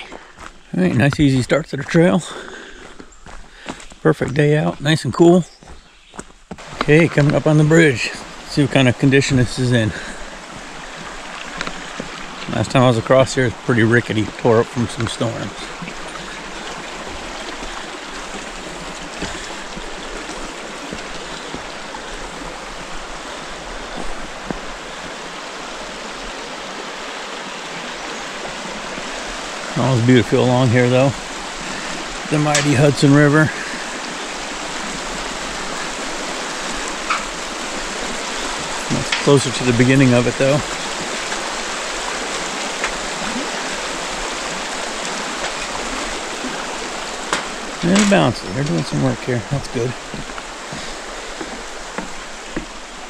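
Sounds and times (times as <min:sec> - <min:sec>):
water rushing over rocks: 0:00.0 - 0:05.4, 0:06.6 - 0:53.0.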